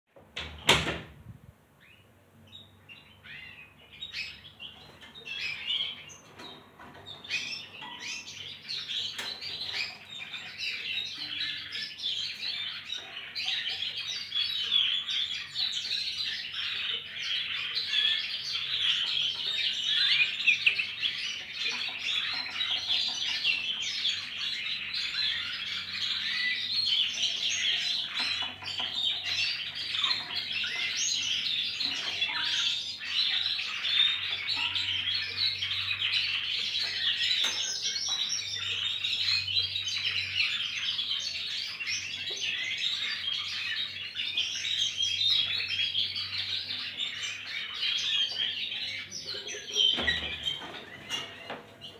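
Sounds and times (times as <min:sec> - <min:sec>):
finches chirping and twittering: 0:01.8 - 0:51.9.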